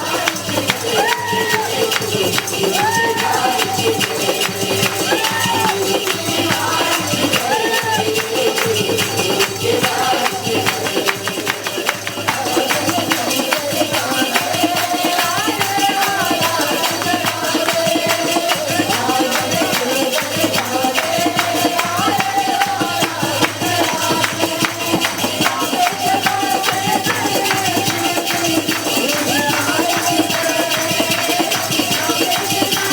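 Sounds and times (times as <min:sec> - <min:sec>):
fast percussion beat: 0:00.0 - 0:32.9.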